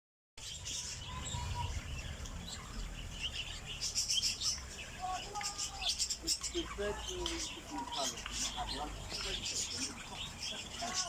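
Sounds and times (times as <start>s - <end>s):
caged birds chirping: 0.4s - 11.0s.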